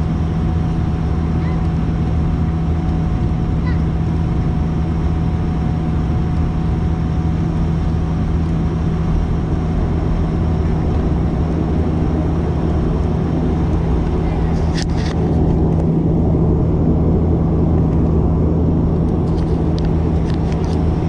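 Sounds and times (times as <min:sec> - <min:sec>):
turboprop engines droning: 0:00.0 - 0:21.0.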